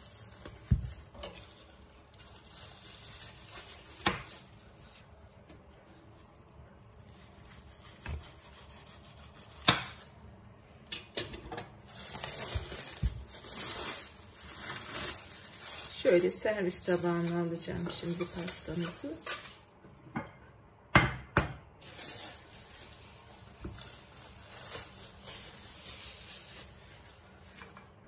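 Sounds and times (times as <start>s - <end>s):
cling film rustling and crinkling: 0.0s - 10.5s, 11.7s - 19.8s, 21.8s - 28.0s.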